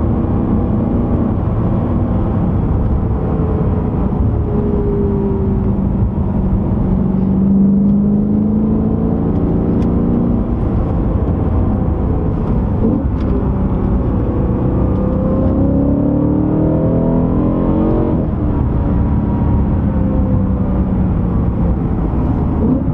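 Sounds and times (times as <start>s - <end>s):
car engine pulling under load: 0.0s - 22.9s.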